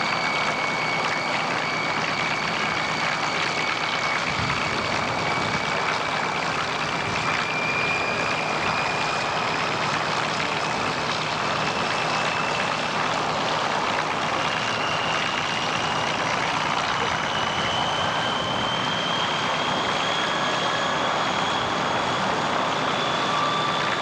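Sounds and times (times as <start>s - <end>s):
aircraft engine running: 0.0s - 24.0s.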